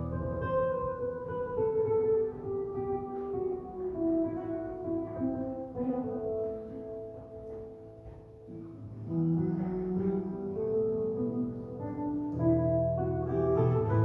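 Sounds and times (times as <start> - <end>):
slow instrumental music: 0.0 - 14.0.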